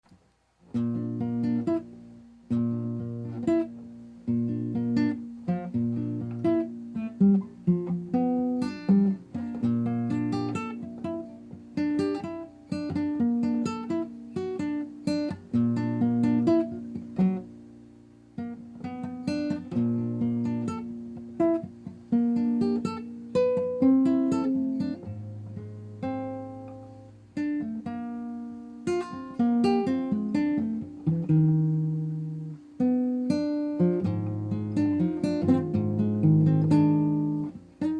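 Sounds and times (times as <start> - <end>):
acoustic guitar plucking and strumming: 0.0 - 37.9.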